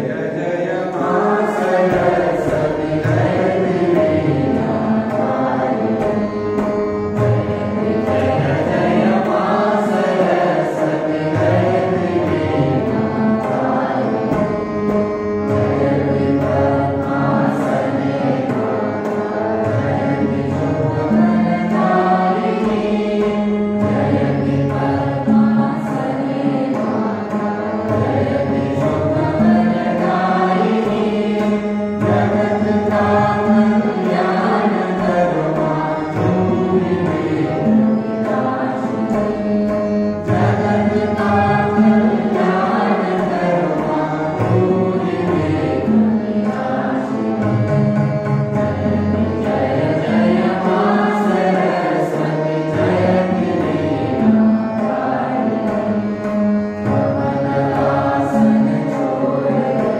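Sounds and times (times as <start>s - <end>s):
group singing: 0.0s - 59.9s
instrumental accompaniment: 0.0s - 59.9s.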